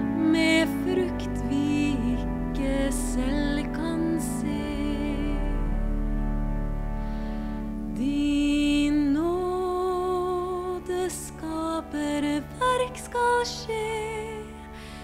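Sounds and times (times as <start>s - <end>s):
woman singing long notes: 0.0s - 5.8s, 7.9s - 14.6s
church organ chords: 0.0s - 15.0s.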